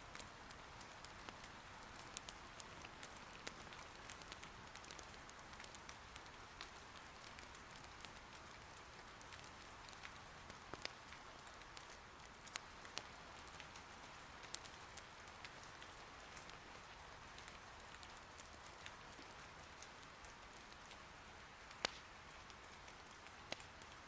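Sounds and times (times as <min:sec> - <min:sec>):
rain patter: 0:00.0 - 0:24.0
firewood popping and crackling: 0:00.1 - 0:24.0.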